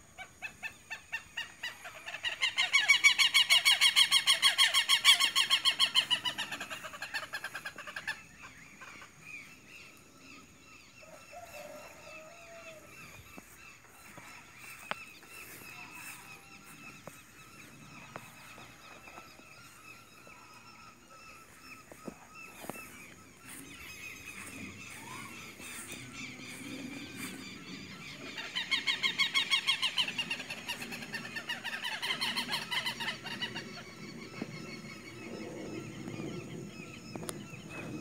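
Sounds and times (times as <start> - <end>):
birds calling: 0.0 - 38.0.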